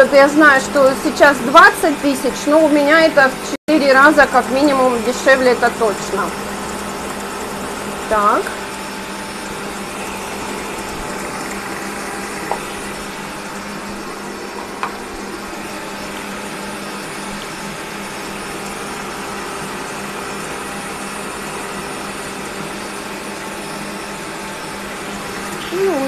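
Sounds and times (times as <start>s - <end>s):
appliance motor whirring: 0.0s - 26.0s.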